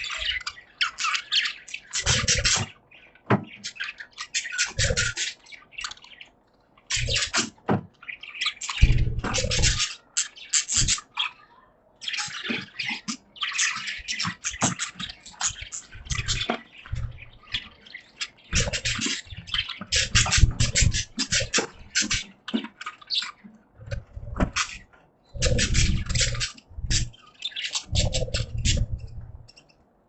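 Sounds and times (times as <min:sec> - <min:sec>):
budgies chirping: 0:00.0 - 0:30.0.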